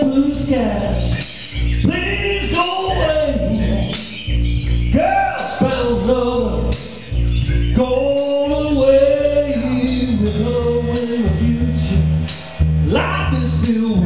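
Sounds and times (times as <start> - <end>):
man singing a slow soul song: 0.0 - 4.2, 4.9 - 14.0
backing music with bass line: 0.0 - 14.0.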